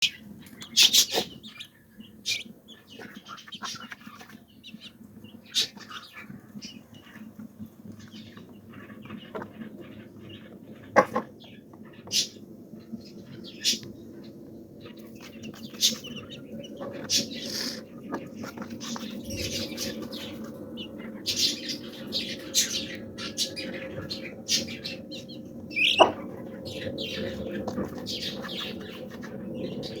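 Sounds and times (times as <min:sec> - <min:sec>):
chicks peeping and chirping: 0:00.0 - 0:30.0.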